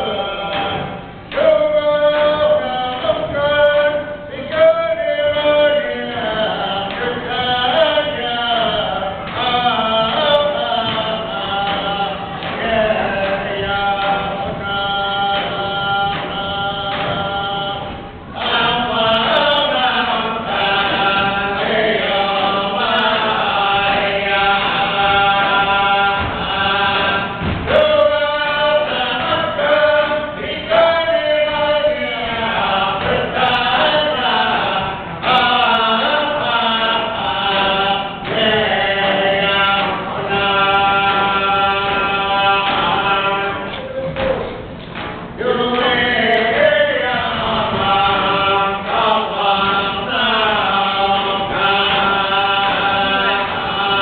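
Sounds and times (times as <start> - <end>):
men chanting together: 0.0 - 54.0
frame drum beats: 6.4 - 54.0.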